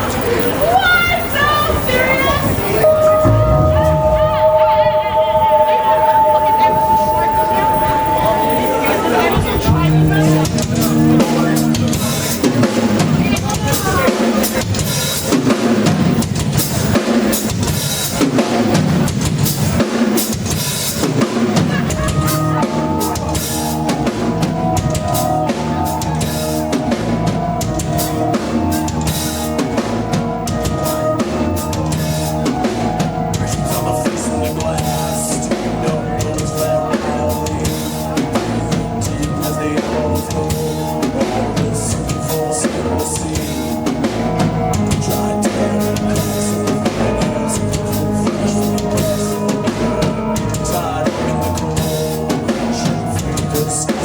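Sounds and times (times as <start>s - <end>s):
bass guitar: 0.0s - 54.0s
drum kit: 0.0s - 54.0s
held keyboard chords: 0.0s - 54.0s.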